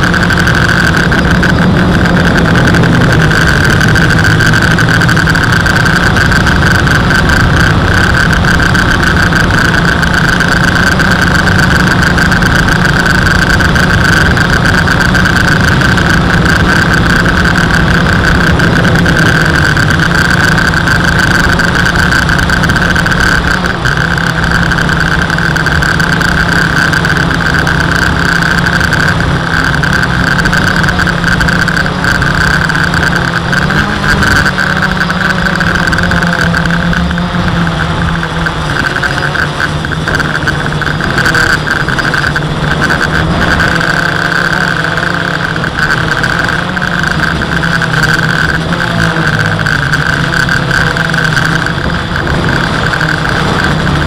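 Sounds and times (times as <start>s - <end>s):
quadcopter propellers whining: 0.0s - 54.0s.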